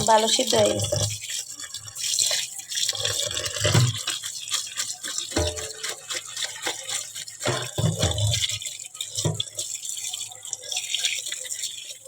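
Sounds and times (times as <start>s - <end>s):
water splashing and dripping: 0.0s - 12.0s.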